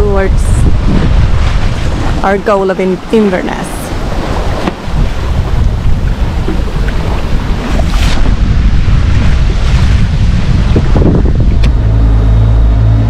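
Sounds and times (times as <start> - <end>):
sea water rushing along hull: 0.0 - 13.0
wind buffeting microphone: 0.0 - 13.0.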